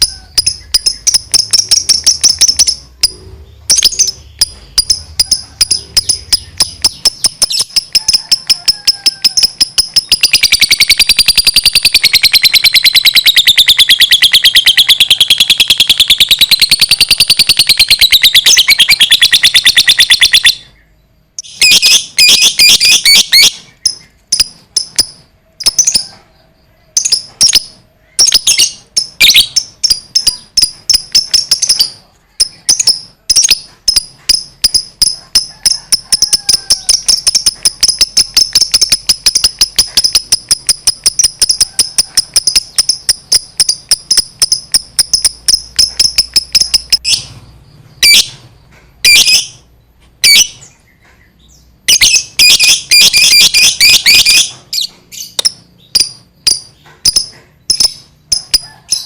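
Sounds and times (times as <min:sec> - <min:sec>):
lovebird shrill chatter: 0:00.0 - 0:20.8, 0:21.4 - 0:26.2, 0:26.9 - 0:47.3, 0:49.0 - 0:49.6, 0:51.9 - 0:59.0.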